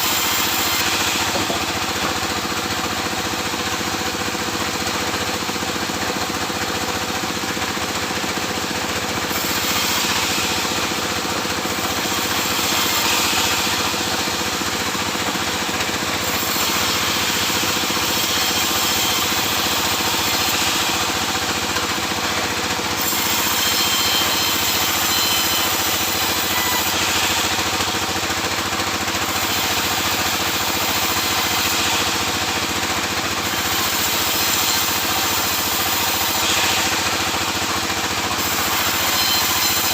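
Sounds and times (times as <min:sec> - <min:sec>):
saw blade hissing through wood: 0:00.0 - 0:04.2, 0:08.6 - 0:28.2, 0:29.0 - 0:39.9
sawmill saw running: 0:00.0 - 0:39.9.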